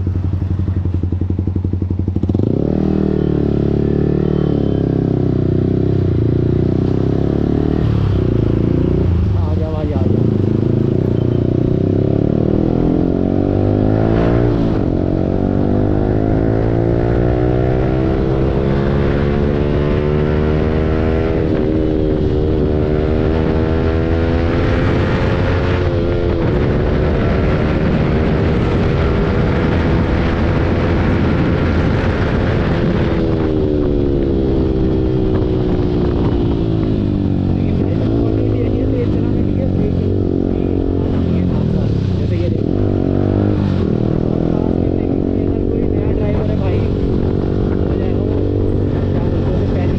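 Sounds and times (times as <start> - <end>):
motorcycle engine revving: 0.0 - 49.9
wind rushing: 5.7 - 49.9.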